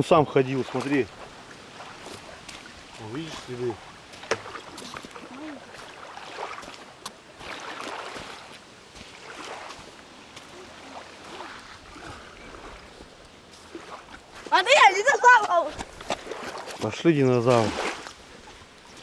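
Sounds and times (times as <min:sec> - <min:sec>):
waves washing onto sandy shore: 0:00.0 - 0:19.0.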